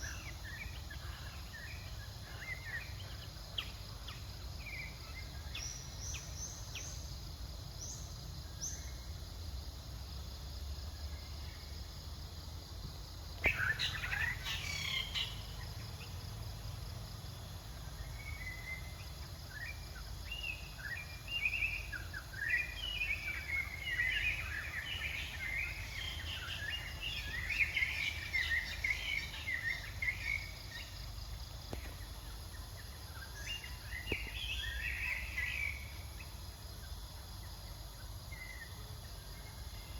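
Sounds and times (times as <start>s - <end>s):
low outdoor background noise: 0.0s - 39.9s.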